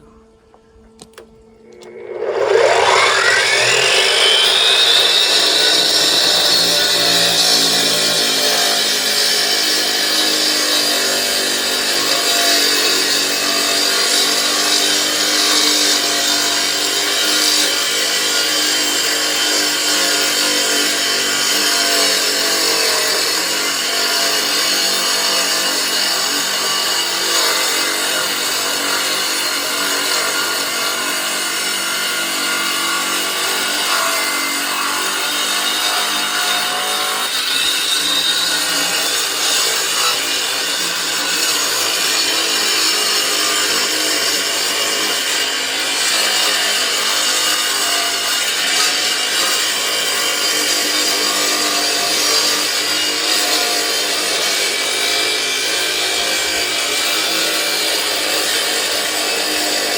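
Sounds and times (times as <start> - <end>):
power saw cutting: 1.0 - 59.9.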